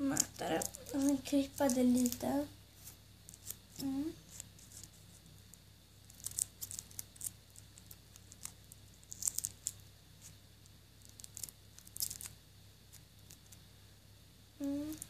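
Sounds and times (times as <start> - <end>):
tape crackling: 0.0 - 13.6.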